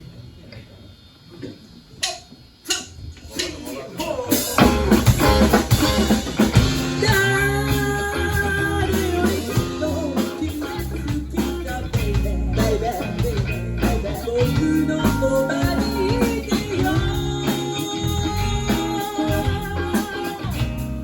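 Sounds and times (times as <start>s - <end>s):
drum kit: 2.0s - 21.0s
bass guitar line: 4.0s - 21.0s
electric guitar: 4.0s - 21.0s.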